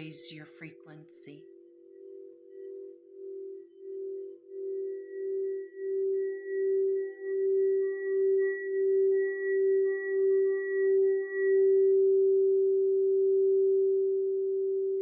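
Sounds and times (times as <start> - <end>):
singing bowl tone: 0.0 - 15.0.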